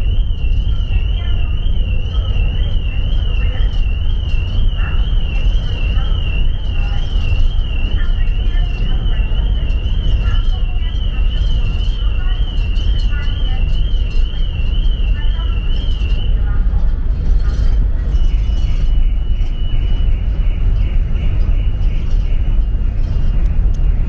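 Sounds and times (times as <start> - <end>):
faint voices: 0.0 - 19.3
ship low rumble: 0.0 - 24.0
warbling high whine: 0.0 - 24.0.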